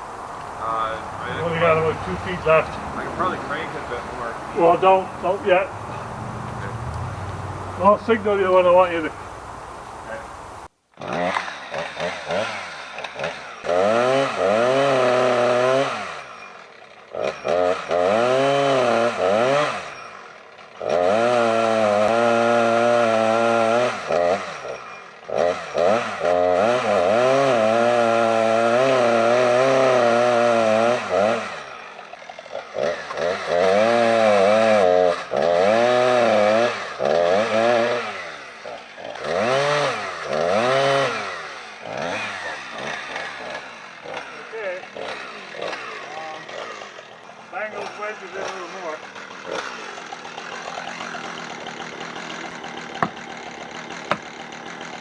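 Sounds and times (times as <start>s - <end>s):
chainsaw cutting tree trunk: 1.2s - 5.7s, 10.9s - 55.0s.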